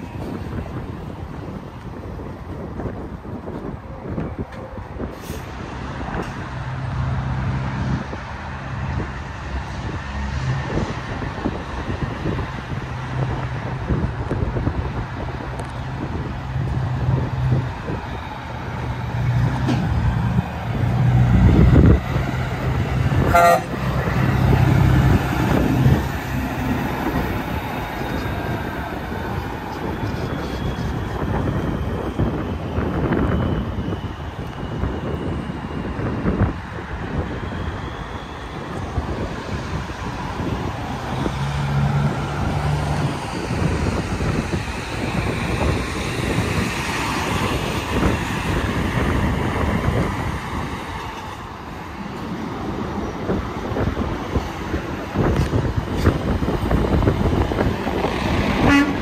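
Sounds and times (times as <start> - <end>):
highway traffic tyre and wind noise: 0.0 - 59.0
truck engine drone: 0.0 - 59.0.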